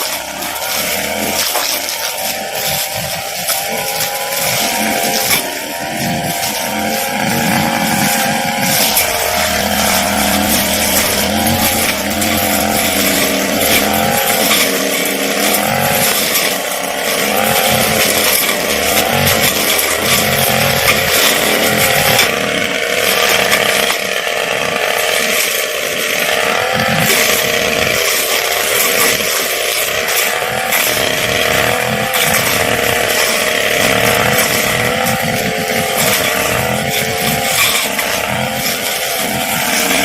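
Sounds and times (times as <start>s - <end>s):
brush cutter engine high revs: 0.0s - 40.0s.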